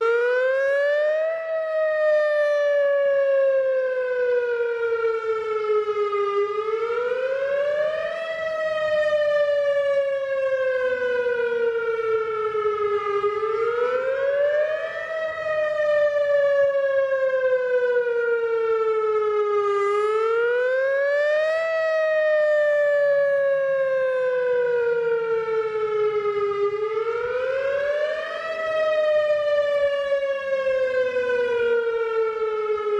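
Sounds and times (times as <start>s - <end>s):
warning siren wailing: 0.0s - 32.9s.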